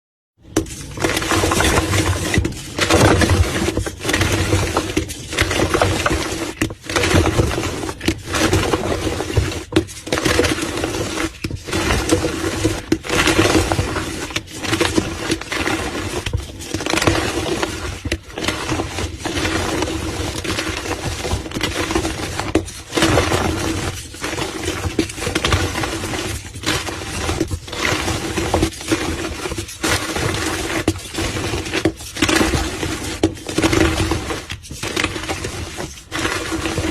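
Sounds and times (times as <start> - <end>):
chalk blocks being crushed: 0.5 - 36.9.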